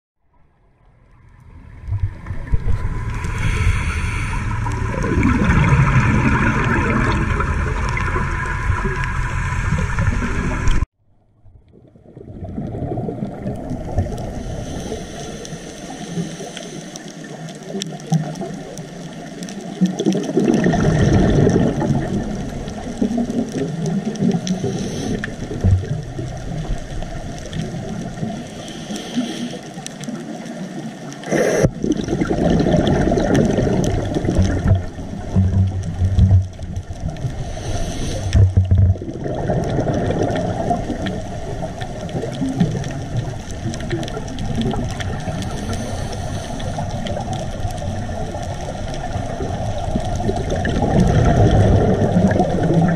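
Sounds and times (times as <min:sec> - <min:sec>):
steady water noise: 0:00.2 - 0:52.9
bubbles gurgling underwater: 0:01.3 - 0:10.8, 0:11.4 - 0:16.4, 0:17.0 - 0:52.9.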